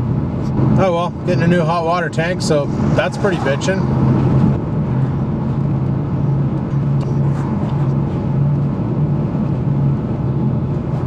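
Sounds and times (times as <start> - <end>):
car engine drone: 0.0 - 11.0
road rumble: 0.0 - 11.0.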